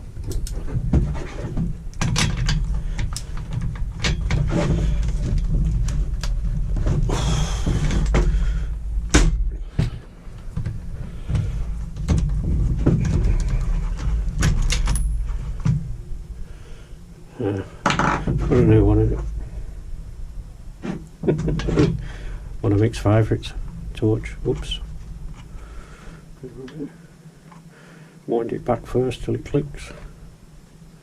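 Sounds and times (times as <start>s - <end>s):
low handling rumble: 0.0s - 27.2s.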